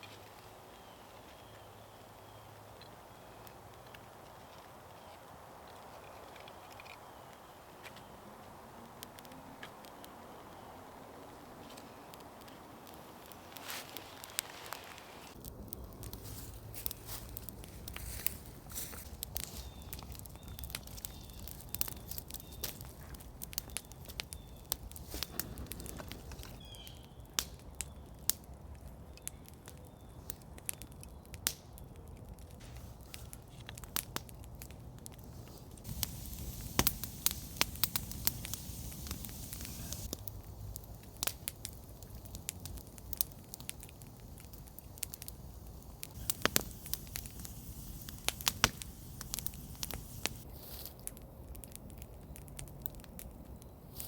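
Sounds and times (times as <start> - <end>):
campfire crackling and popping: 8.8 - 54.0.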